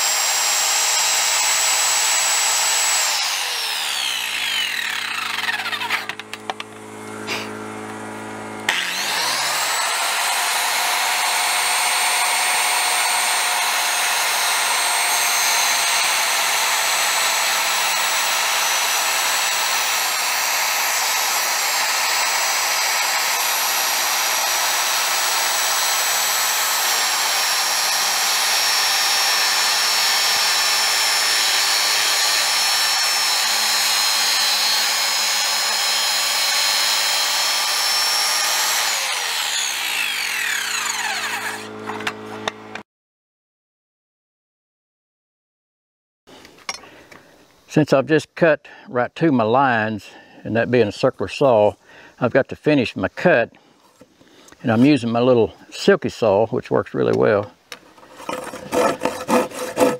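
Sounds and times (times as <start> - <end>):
circular saw cutting wood: 0.0 - 42.8, 53.9 - 59.9.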